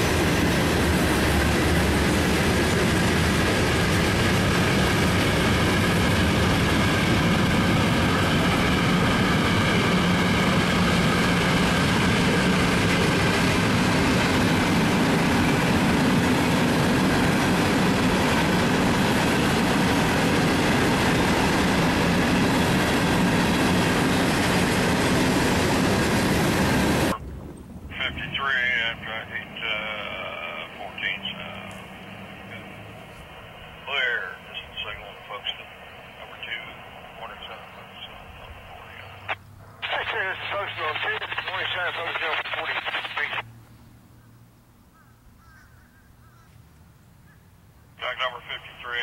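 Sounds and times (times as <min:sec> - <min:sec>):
train wheels rumbling on track: 0:00.0 - 0:43.4.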